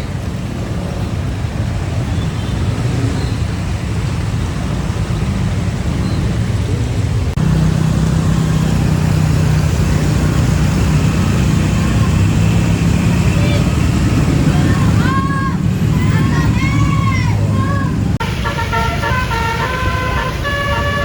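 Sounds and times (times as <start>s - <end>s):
road traffic rumble: 0.0s - 21.0s
steady engine hum: 0.0s - 21.0s.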